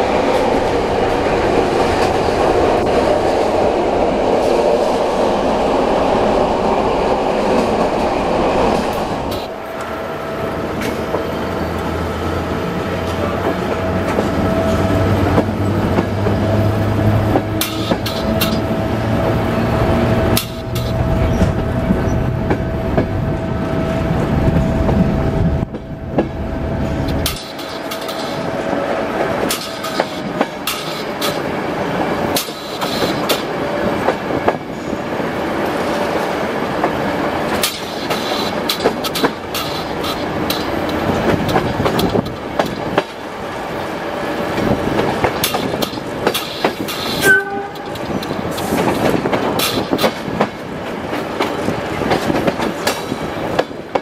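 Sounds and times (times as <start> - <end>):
locomotive engine drone: 0.0 - 49.3
train wheels clicking over rail joints: 7.4 - 10.0, 10.7 - 12.0, 12.7 - 23.3, 24.4 - 54.0.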